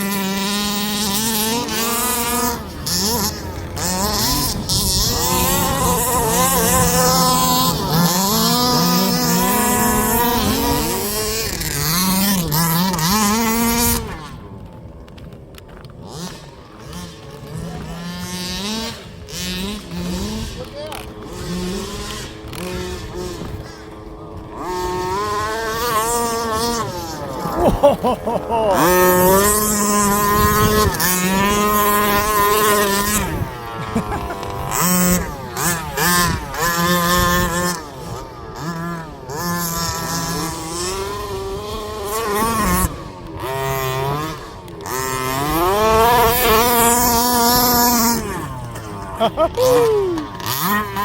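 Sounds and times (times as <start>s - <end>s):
small two-stroke engines revving: 0.0s - 51.0s.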